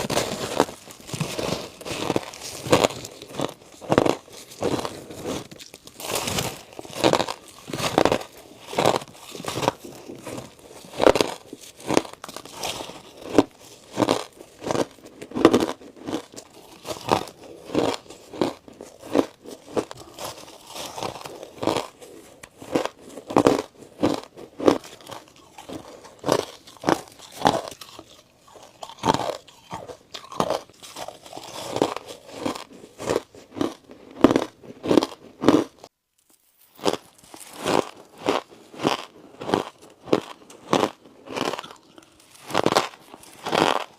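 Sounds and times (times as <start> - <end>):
person crunching ice: 0.0 - 43.9.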